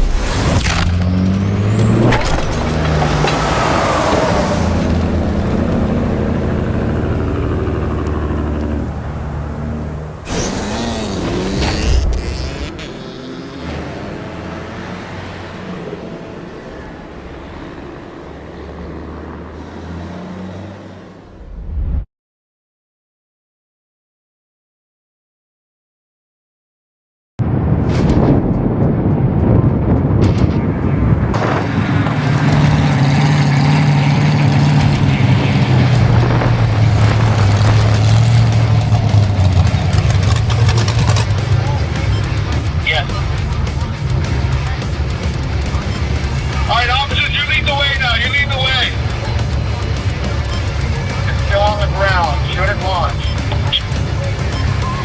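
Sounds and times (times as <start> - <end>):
vehicle engine running: 0.0 - 21.4, 30.7 - 55.0
road and traffic noise: 0.0 - 21.7, 27.4 - 55.0.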